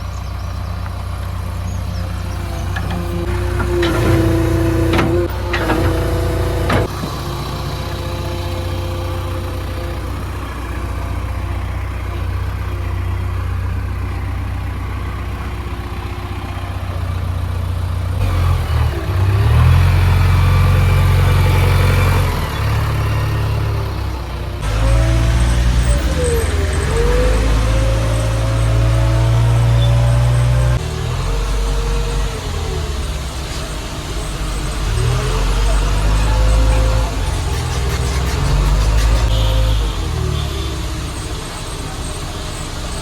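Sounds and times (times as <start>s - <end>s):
backhoe diesel engine revving: 0.0s - 43.0s.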